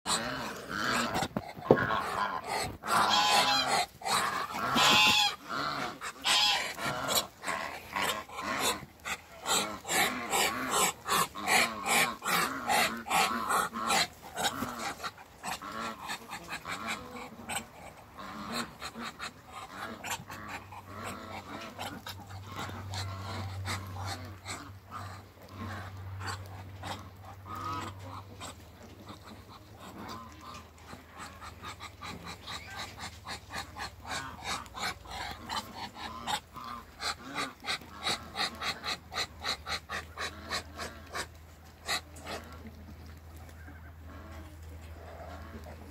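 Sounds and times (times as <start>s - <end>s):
ducks hissing and huffing: 0.1s - 45.9s.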